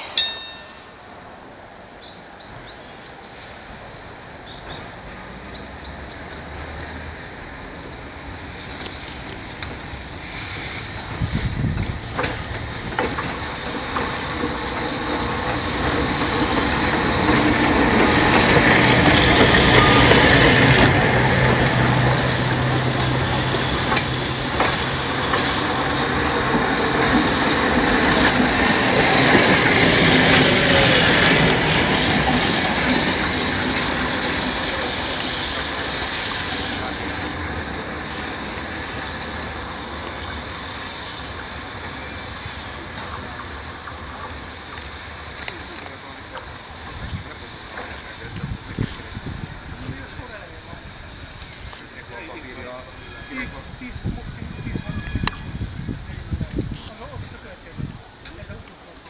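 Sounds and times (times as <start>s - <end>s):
trams rolling past: 0.0s - 59.0s
wheels clacking over rail joints: 6.1s - 59.0s.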